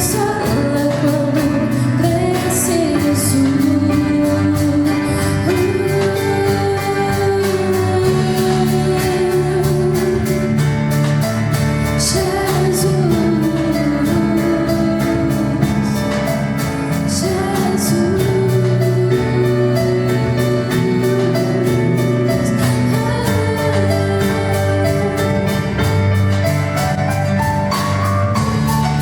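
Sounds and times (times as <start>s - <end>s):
woman singing lead vocal: 0.0s - 26.4s
acoustic guitar: 0.0s - 29.0s
drums with cymbal beat: 0.0s - 29.0s
piano: 0.0s - 29.0s.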